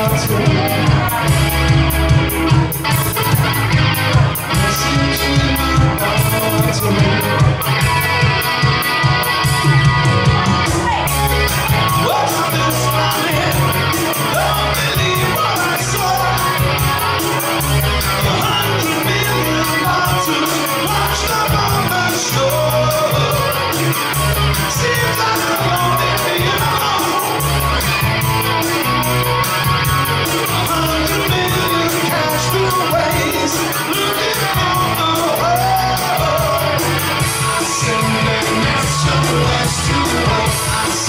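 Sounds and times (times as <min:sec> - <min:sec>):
man singing: 0:00.0 - 0:03.6, 0:04.2 - 0:08.5, 0:11.2 - 0:29.0, 0:30.1 - 0:41.0
electric guitar: 0:00.0 - 0:41.0
steady drum beat: 0:00.0 - 0:41.0.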